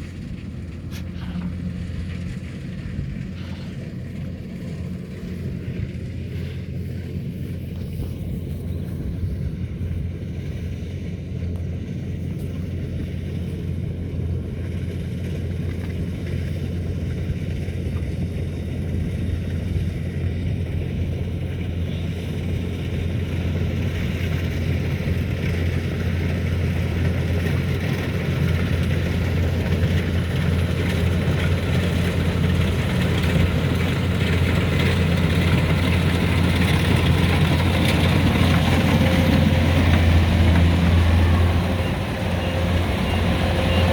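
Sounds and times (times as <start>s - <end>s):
harvester engine humming: 0.0s - 43.9s.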